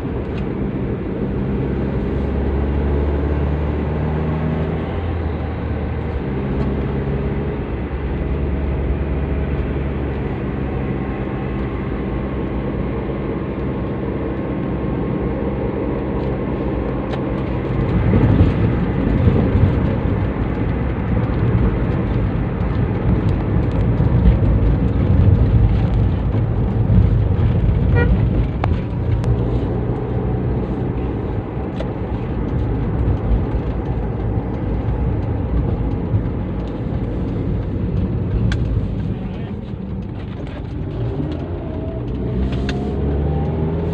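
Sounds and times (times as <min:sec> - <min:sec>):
car engine droning while driving: 0:00.0 - 0:43.9.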